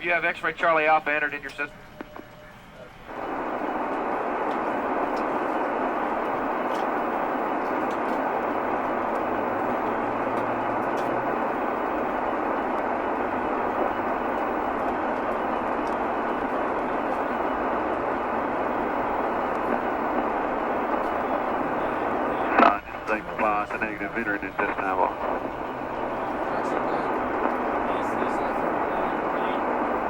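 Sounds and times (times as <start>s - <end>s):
radio static hiss: 0.0s - 30.0s.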